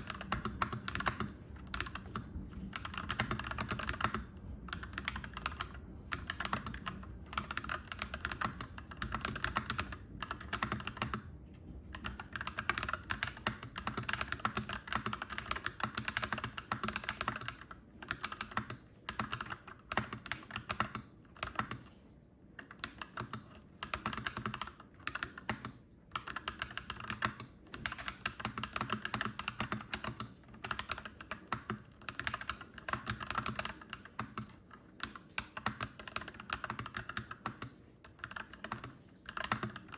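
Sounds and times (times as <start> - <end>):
mechanical keyboard typing: 0.0 - 11.3, 11.9 - 22.0, 22.6 - 39.9.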